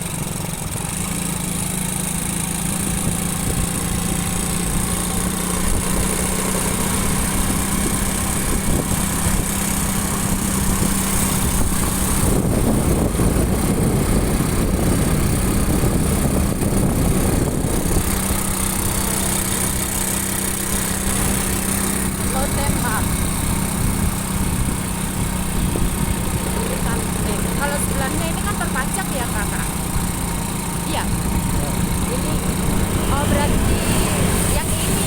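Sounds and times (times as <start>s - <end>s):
loud rough rumble: 0.0s - 35.0s
motorcycle engine running: 0.0s - 35.0s
road and wind noise: 0.0s - 35.0s.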